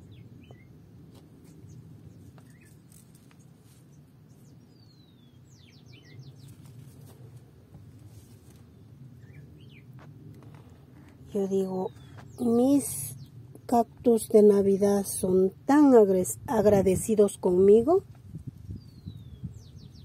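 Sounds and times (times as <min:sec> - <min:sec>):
low background rumble: 0:00.0 - 0:20.0
songbirds chirping: 0:00.0 - 0:20.0.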